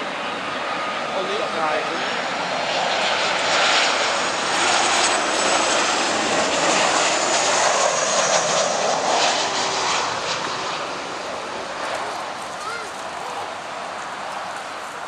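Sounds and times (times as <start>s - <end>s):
jet airliner passing low: 0.0s - 15.0s.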